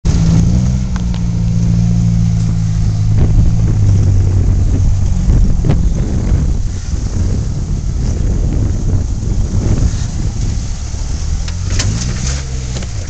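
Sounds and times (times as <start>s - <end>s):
car engine idling: 0.0s - 13.0s
wind buffeting microphone: 0.0s - 13.0s.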